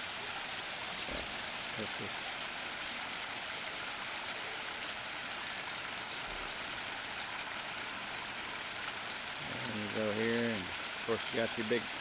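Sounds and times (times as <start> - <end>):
waterfall splashing into pond: 0.0 - 12.0.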